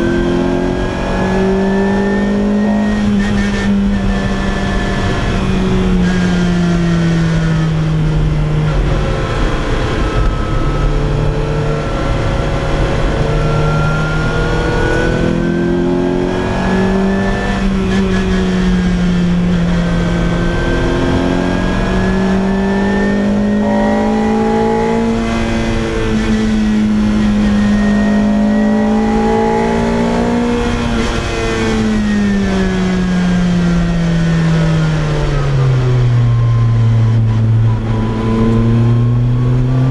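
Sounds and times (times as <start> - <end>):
car engine and loud exhaust: 0.0 - 39.9.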